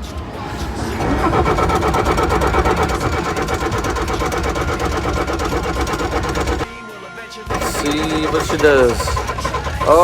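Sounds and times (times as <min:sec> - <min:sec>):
diesel engine cranking: 0:00.0 - 0:06.7, 0:07.5 - 0:10.0.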